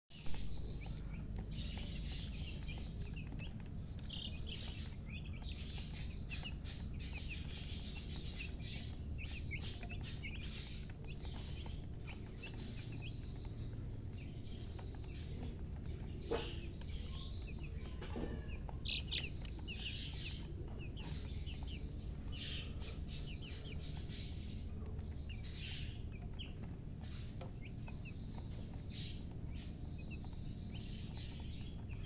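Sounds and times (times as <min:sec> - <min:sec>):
baby chicks peeping: 0:00.1 - 0:32.0
steady low rumble: 0:00.2 - 0:32.0.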